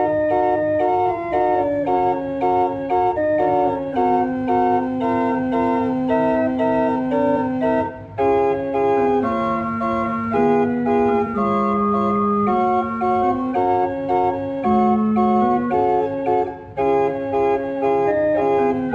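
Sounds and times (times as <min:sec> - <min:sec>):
church organ playing chords: 0:00.0 - 0:18.9.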